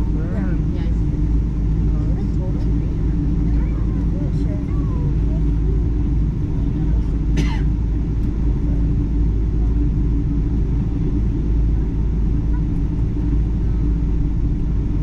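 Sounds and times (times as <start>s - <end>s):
airliner cabin rumble: 0.0s - 15.0s
constant hum: 0.0s - 15.0s.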